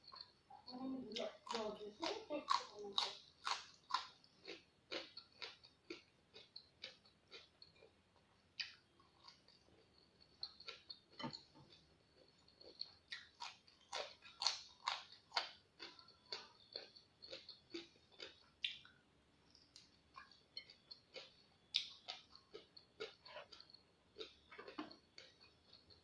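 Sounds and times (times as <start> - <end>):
crunchy vegetable chewing: 0.0 - 26.0.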